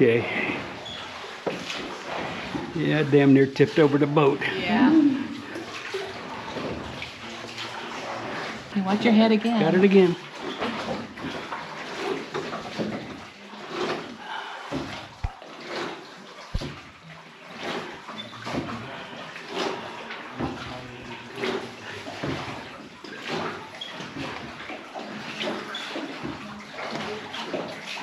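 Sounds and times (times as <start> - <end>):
oars splashing in water: 0.0 - 28.0.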